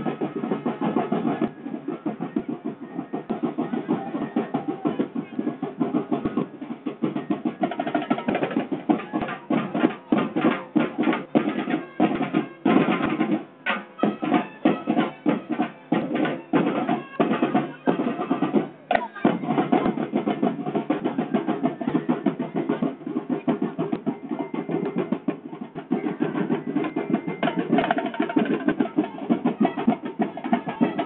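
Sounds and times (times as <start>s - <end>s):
drum and percussion band playing: 0.0s - 31.0s.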